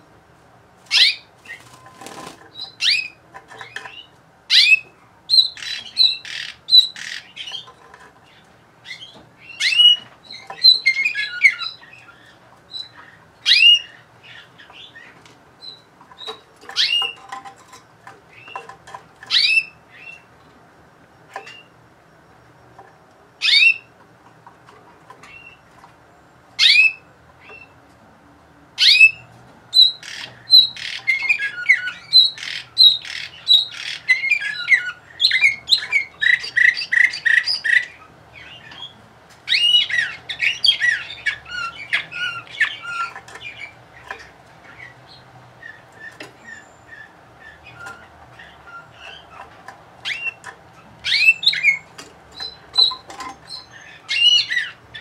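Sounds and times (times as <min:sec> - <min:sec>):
canary chirps: 0:00.8 - 0:27.9, 0:28.8 - 0:55.0
canary singing trills: 0:00.8 - 0:55.0.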